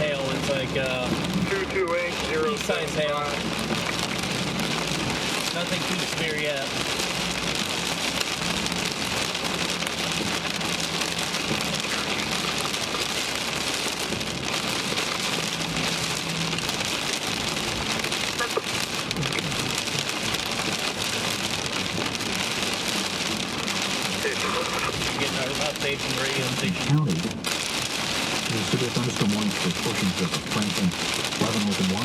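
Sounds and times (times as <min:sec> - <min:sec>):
rain and hail on car roof: 0:00.0 - 0:32.0.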